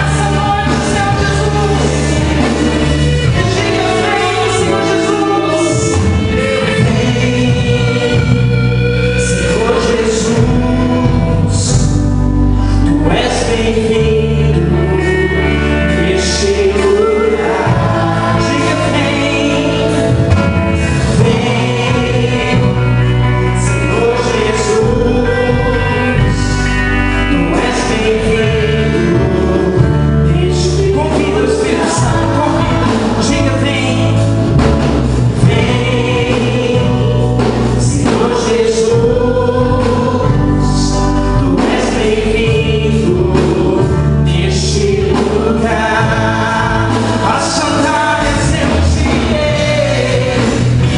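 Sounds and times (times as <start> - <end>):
group of singers: 0.0 - 50.9
worship band playing: 0.0 - 50.9.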